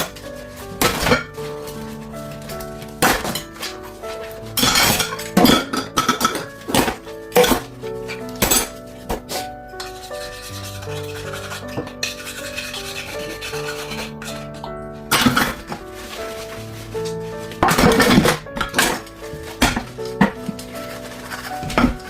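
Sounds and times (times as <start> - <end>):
background music of held notes: 0.0 - 22.0
dishes and pans clattering: 0.0 - 22.0
scrubbing: 0.0 - 22.0.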